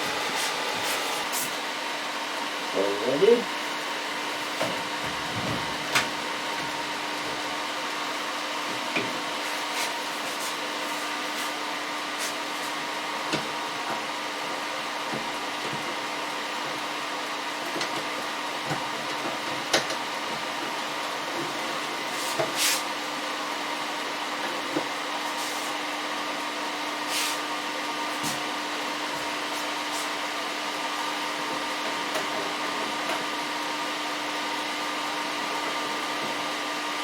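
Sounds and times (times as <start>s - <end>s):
machine whirring hum: 0.0s - 37.0s.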